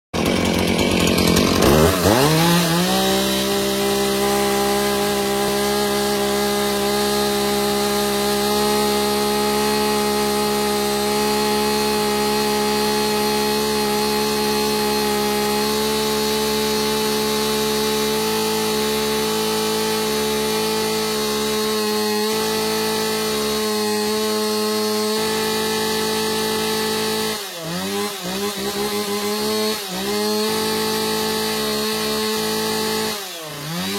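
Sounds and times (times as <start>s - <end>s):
chainsaw revving: 0.2s - 33.9s.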